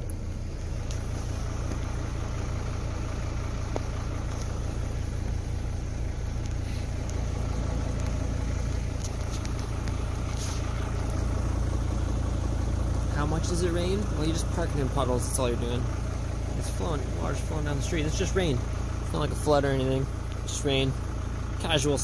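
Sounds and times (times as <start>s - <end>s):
low rumble: 0.0s - 20.5s.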